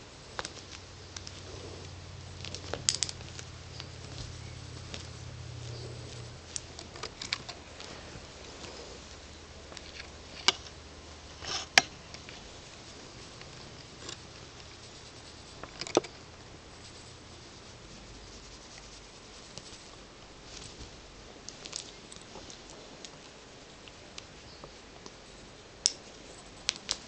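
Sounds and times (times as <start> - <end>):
kitten claws scratching clothing: 0.3 - 23.2.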